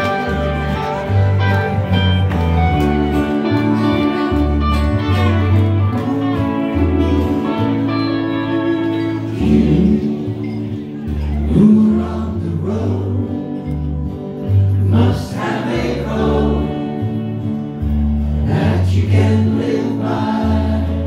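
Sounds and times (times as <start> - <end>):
live band instrumental music: 0.0 - 21.0.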